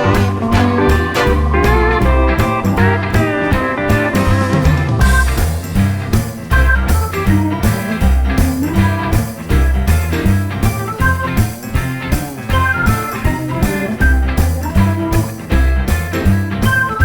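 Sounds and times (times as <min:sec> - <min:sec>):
guitar track with heavy bass: 0:00.0 - 0:17.0.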